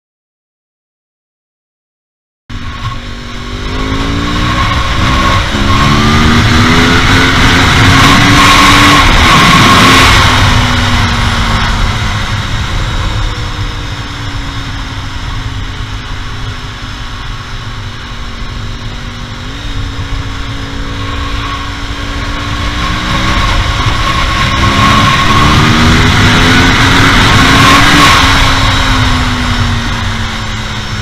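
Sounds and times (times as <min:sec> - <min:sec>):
low wind rumble: 0:02.5 - 0:31.0
motorcycle engine revving: 0:02.5 - 0:31.0.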